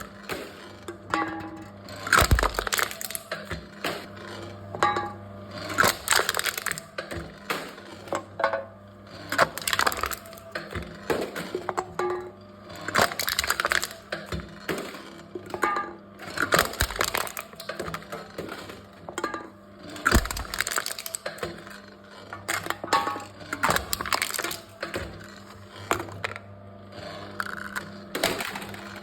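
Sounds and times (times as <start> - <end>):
cans crushed by machine: 0.0 - 29.0.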